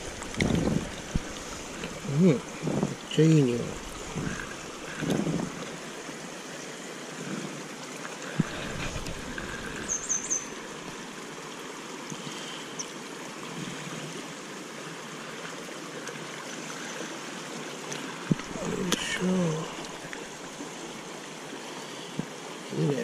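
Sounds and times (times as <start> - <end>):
river current flowing: 0.0 - 23.0.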